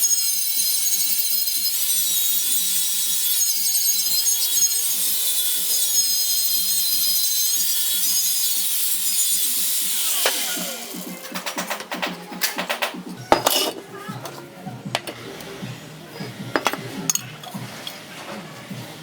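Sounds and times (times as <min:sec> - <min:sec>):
angle grinder cutting steel: 0:00.0 - 0:12.0, 0:12.6 - 0:18.2.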